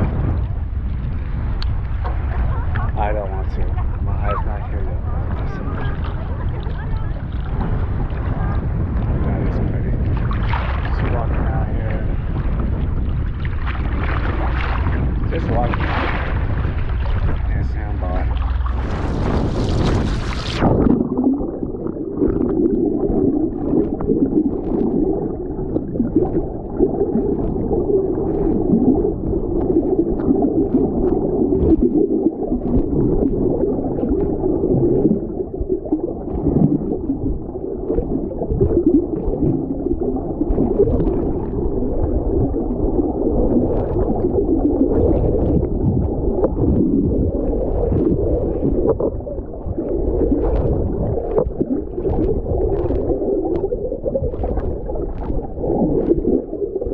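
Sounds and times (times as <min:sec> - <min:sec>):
faint crackles: 0:00.0 - 0:56.9
muffled underwater gurgling: 0:00.0 - 0:56.9.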